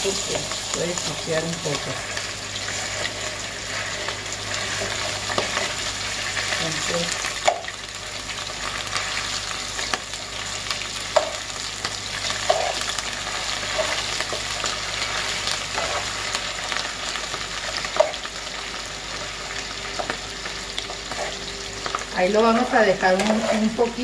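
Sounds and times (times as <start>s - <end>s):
meat sizzling in hot lard: 0.0s - 24.0s.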